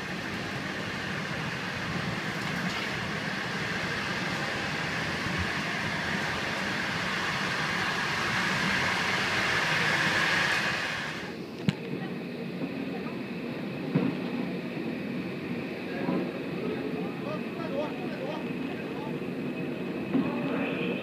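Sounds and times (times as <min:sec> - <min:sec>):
train car rumble: 0:00.0 - 0:21.0
train wheels on rails: 0:00.0 - 0:21.0.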